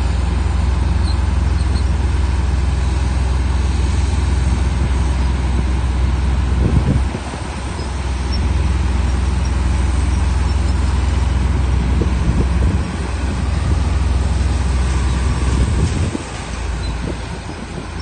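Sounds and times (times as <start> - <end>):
heavy diesel engines rumbling: 0.0 - 18.0.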